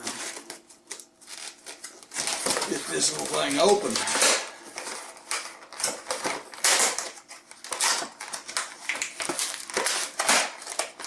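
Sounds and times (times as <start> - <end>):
packaging crackling and rustling: 0.0 - 11.0.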